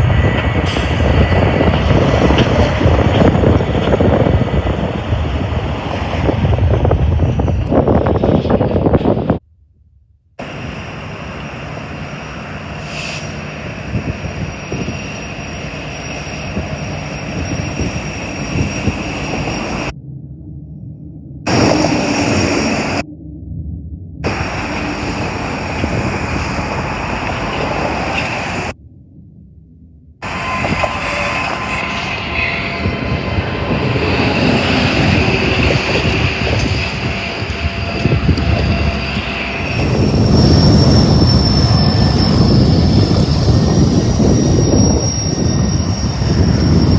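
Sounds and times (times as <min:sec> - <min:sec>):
large engine rumbling with whine: 0:00.0 - 0:09.4, 0:10.4 - 0:28.9, 0:29.7 - 0:46.9.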